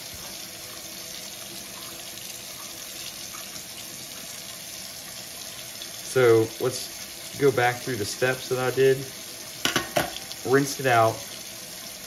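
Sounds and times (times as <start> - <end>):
faucet running into steel sink: 0.0 - 12.0.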